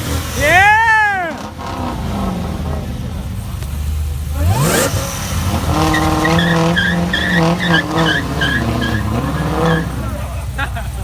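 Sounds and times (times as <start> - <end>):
car tyres squealing: 0.0 - 10.8
car engine at high revs: 0.0 - 11.0.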